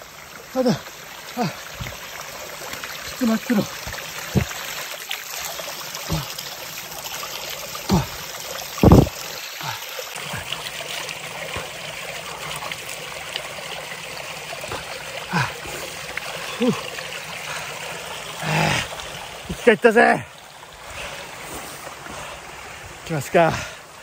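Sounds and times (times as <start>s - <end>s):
water pouring over hands: 0.5s - 20.3s.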